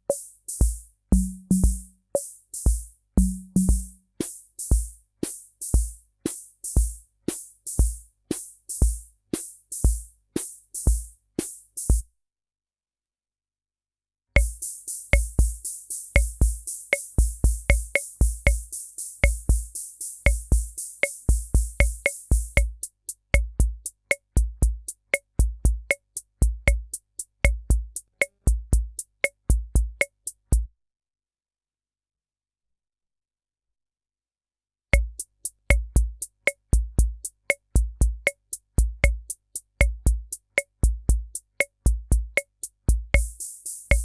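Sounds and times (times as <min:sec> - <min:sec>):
drum machine bass-drum thumps: 0:00.0 - 0:12.1, 0:14.4 - 0:30.7, 0:35.0 - 0:44.0.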